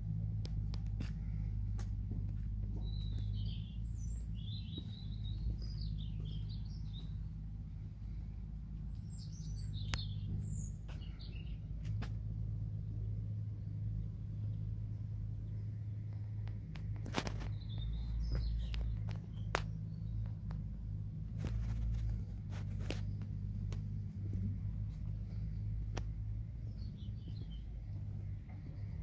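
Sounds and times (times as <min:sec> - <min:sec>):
low rumble: 0:00.0 - 0:29.0
songbirds chirping: 0:00.0 - 0:29.0.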